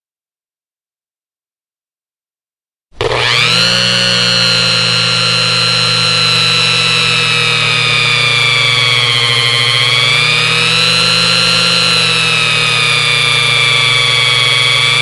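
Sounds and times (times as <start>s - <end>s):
electric motor whirring: 3.0s - 15.0s.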